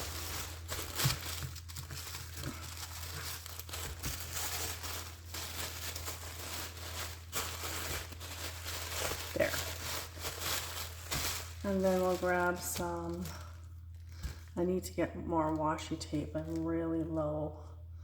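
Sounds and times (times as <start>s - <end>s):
paper crinkling and rustling: 0.0s - 14.6s.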